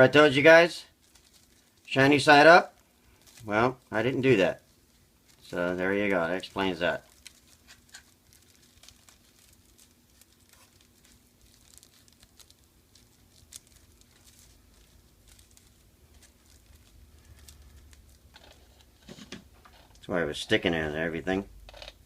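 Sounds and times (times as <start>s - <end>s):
plastic film crinkling: 0.0s - 20.7s.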